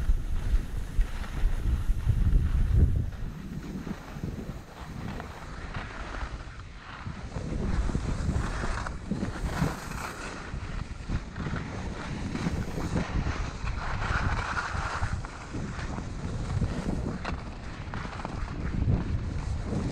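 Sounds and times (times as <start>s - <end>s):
skis scraping over snow: 0.0s - 19.9s
wind rumbling on microphone: 0.0s - 19.9s.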